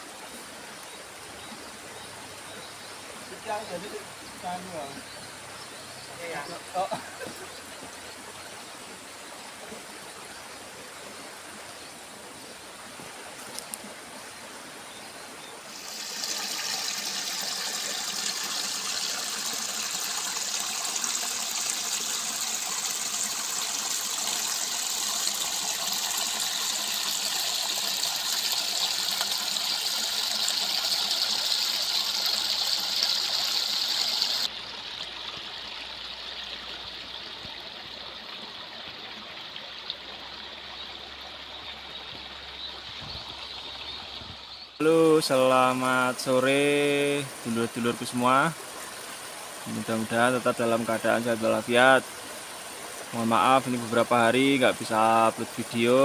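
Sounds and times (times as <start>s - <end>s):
stream running water: 0.0s - 56.0s.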